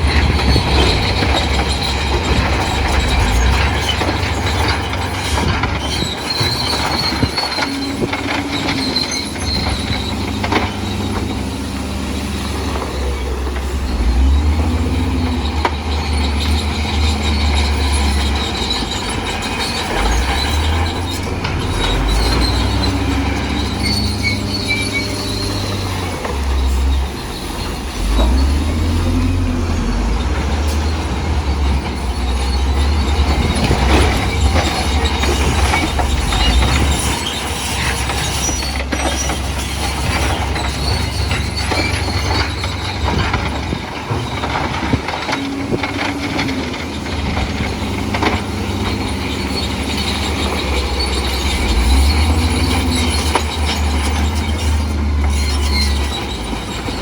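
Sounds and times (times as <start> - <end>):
bulldozer diesel engine rumbling: 0.0 - 57.0
steel tracks clanking: 0.0 - 57.0.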